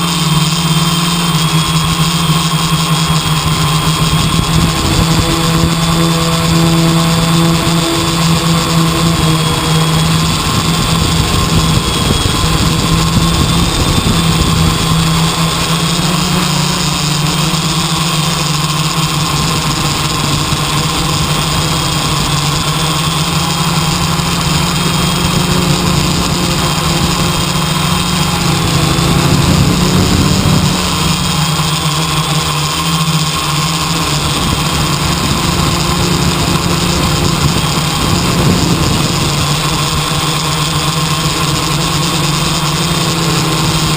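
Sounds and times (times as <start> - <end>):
engine humming: 0.0 - 43.9.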